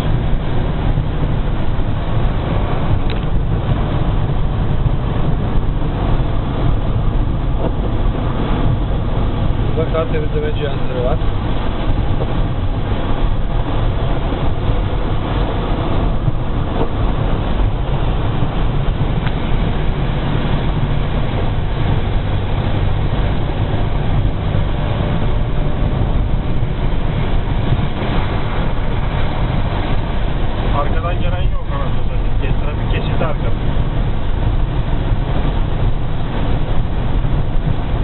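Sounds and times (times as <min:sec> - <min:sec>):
road noise inside cab: 0:00.0 - 0:38.0
truck engine drone: 0:00.0 - 0:38.0.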